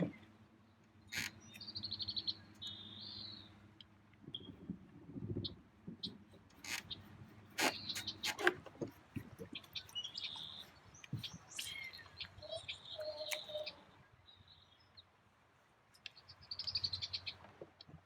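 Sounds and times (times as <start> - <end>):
songbirds chirping: 0.0 - 4.7, 5.4 - 18.0.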